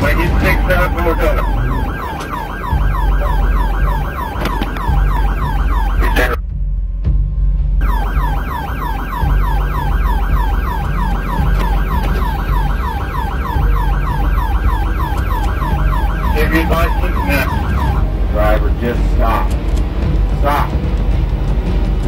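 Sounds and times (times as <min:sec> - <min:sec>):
police siren yelping: 0:00.0 - 0:06.4, 0:07.8 - 0:19.6
car engine and road rumble: 0:00.0 - 0:22.0.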